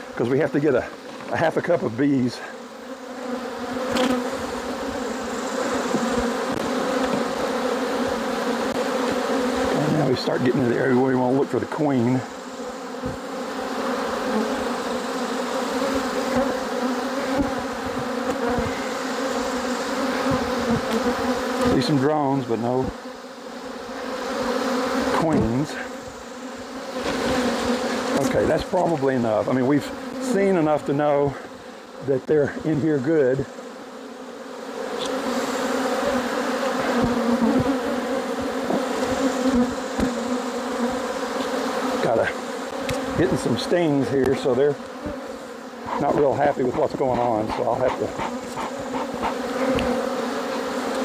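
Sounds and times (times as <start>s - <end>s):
bees buzzing: 0.0s - 51.0s.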